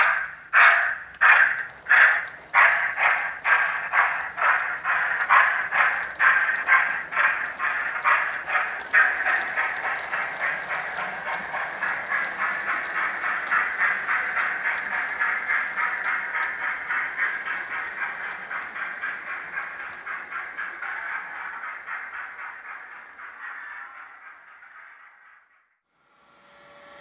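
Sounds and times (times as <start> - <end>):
model train clattering: 0.0 - 25.5.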